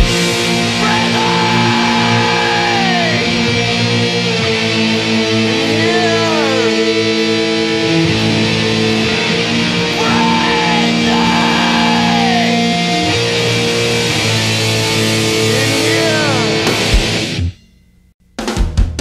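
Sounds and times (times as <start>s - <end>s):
loud electric guitar music: 0.0s - 17.6s.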